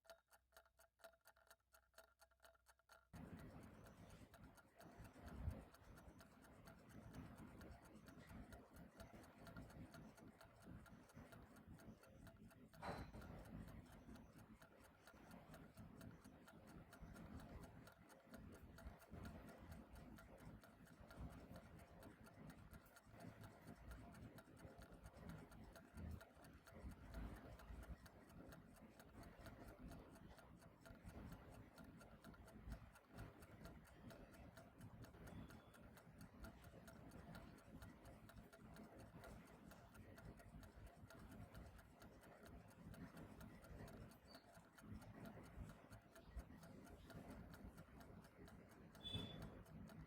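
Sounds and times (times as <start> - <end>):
clock ticking: 0.0 - 50.0.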